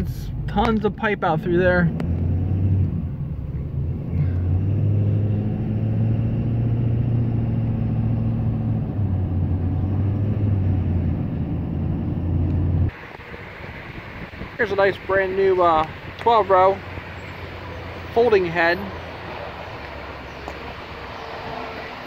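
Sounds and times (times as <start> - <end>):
engine and road noise inside car: 0.0 - 22.0.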